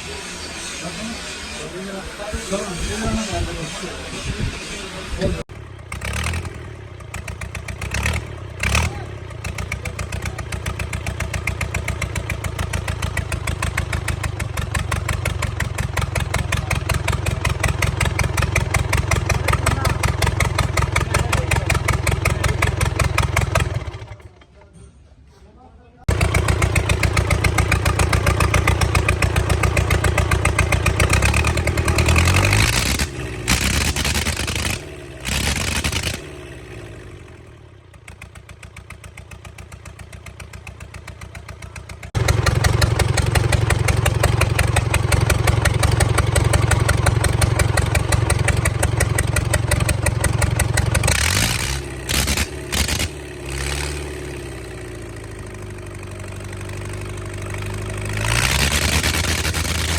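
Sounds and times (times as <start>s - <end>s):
engine pulsing: 0.0s - 24.4s, 26.1s - 59.9s.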